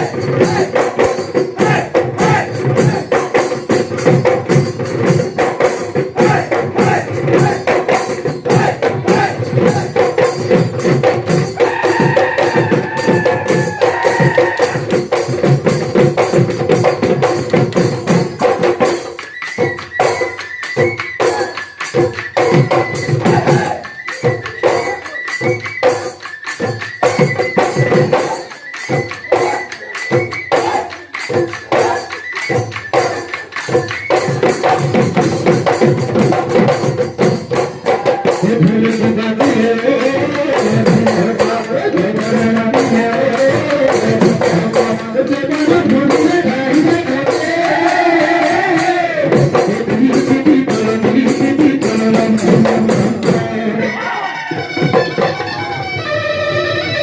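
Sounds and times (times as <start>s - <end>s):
group singing: 0.0s - 17.5s, 18.2s - 26.0s, 27.0s - 55.3s
drums beating fast rhythm: 0.0s - 57.0s.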